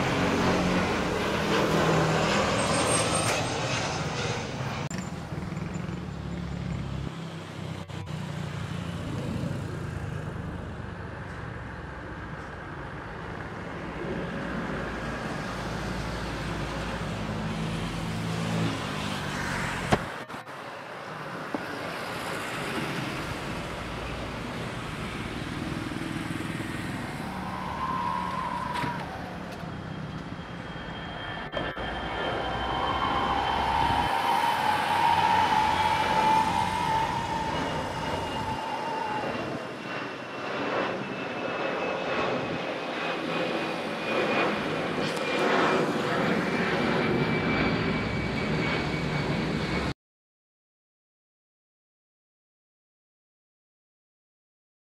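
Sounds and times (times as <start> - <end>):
jet airliner taking off: 0.0 - 9.9, 10.9 - 50.0.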